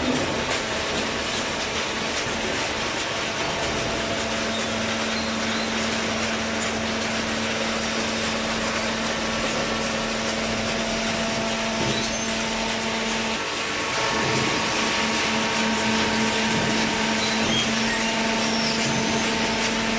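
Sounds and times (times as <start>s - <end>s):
machinery running: 0.0s - 19.9s.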